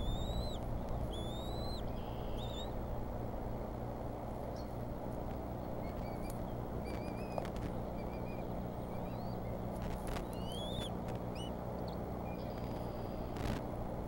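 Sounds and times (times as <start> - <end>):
eaglets peeping: 0.0 - 2.8, 4.5 - 13.6
steady low hum: 0.0 - 14.0.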